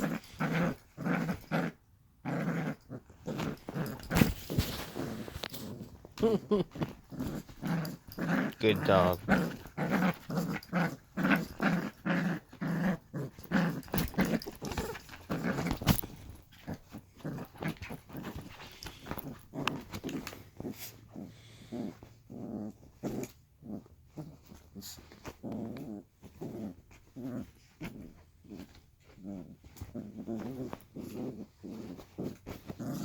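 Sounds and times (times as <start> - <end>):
puppy play growls: 0.0 - 33.0.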